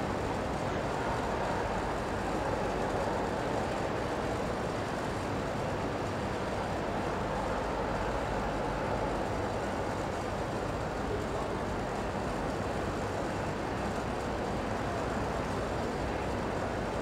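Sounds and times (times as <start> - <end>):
distant crowd noise: 0.0 - 17.0.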